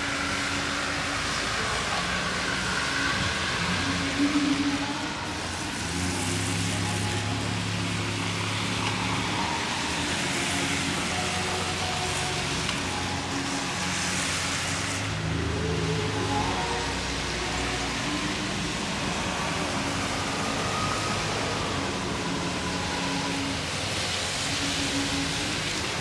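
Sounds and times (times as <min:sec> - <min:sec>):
low engine hum: 0:00.0 - 0:26.0
tyres hissing on wet road: 0:00.0 - 0:26.0.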